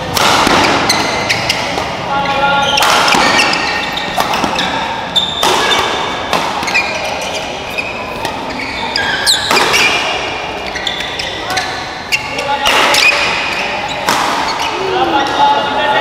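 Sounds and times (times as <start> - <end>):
racket hitting shuttlecock: 0.0 - 2.1, 2.7 - 15.4
shoes squeaking on court floor: 0.0 - 15.4.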